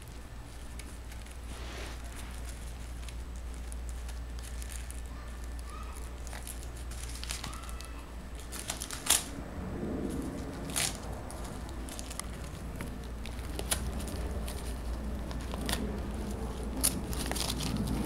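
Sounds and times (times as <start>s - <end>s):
paper crinkling and tearing: 0.0s - 9.3s, 10.0s - 18.0s
sharp paper rips: 0.7s - 9.3s, 10.4s - 18.0s.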